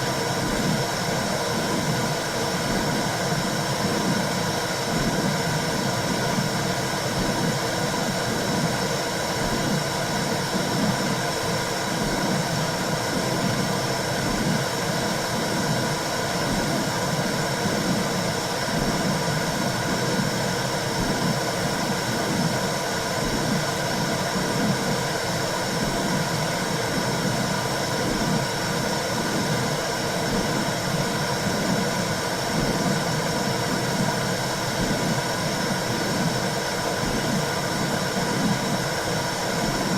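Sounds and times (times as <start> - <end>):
rushing white noise: 0.0 - 39.9.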